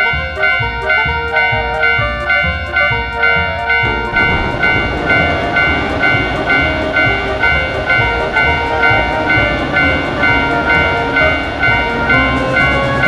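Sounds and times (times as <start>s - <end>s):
low train-like rumble: 0.0s - 13.0s
music: 0.0s - 13.0s
railroad crossing bell ringing: 0.0s - 13.0s.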